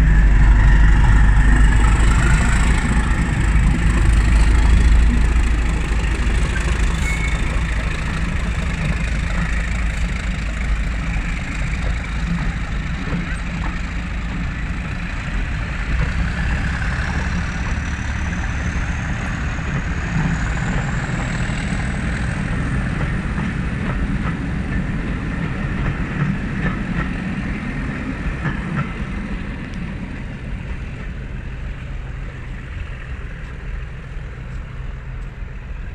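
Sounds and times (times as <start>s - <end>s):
diesel locomotive engine drone: 0.0s - 35.9s
train wheels clicking over rail joints: 0.0s - 35.9s.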